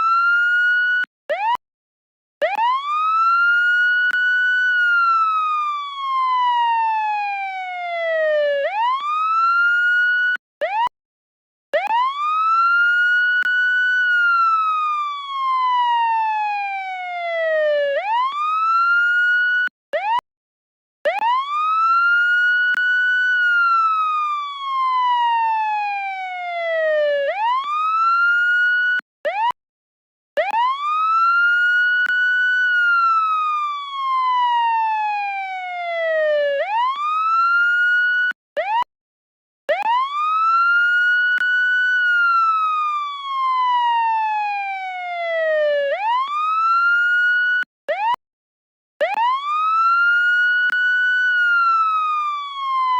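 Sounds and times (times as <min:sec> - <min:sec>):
police siren wailing: 0:00.0 - 0:01.6, 0:02.4 - 0:10.9, 0:11.7 - 0:20.2, 0:21.0 - 0:29.5, 0:30.4 - 0:38.9, 0:39.7 - 0:48.2, 0:49.0 - 0:52.9.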